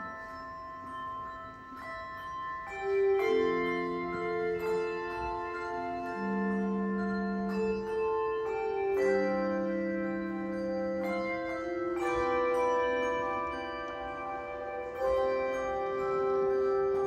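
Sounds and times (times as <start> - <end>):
handbell choir ringing chords: 0.0 - 17.0.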